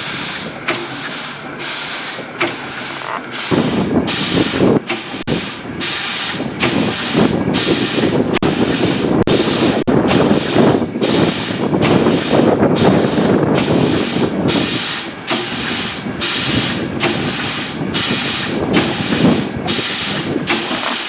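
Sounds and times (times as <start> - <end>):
steam engine exhaust chuffing: 0.0 - 21.0.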